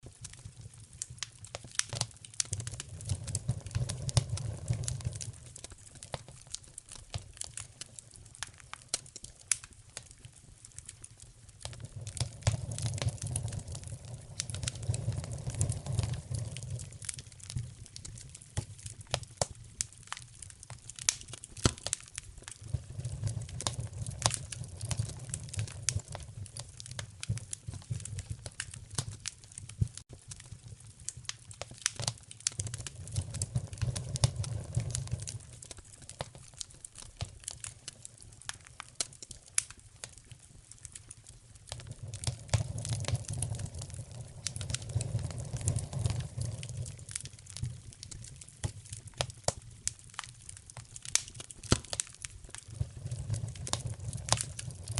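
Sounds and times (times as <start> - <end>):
low rumble of flame: 0.0 - 54.9
wood fire crackling and popping: 0.0 - 54.9.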